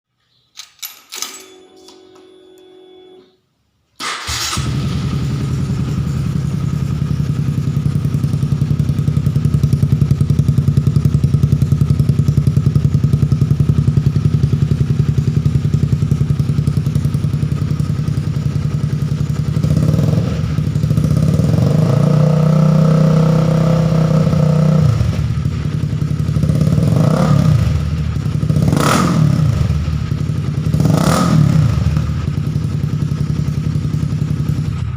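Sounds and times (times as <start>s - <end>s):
motorcycle engine revving: 4.3s - 34.9s
motorcycle engine idling: 4.6s - 34.9s.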